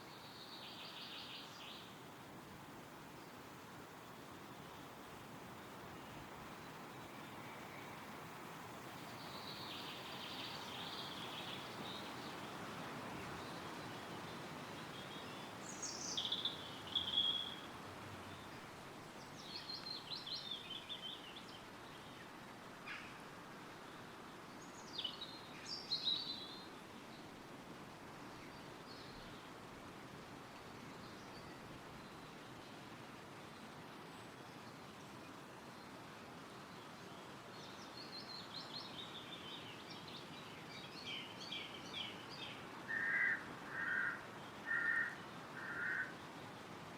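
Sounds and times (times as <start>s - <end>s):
songbird singing: 0.0s - 2.1s, 3.0s - 27.4s, 28.0s - 29.6s, 30.4s - 46.6s
wind rustling trees: 0.0s - 46.9s.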